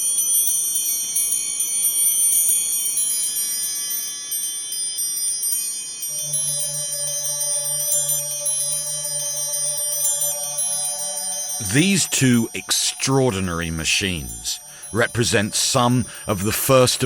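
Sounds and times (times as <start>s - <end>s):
small bells chiming: 0.0s - 17.0s
lower bell tones: 0.2s - 17.0s.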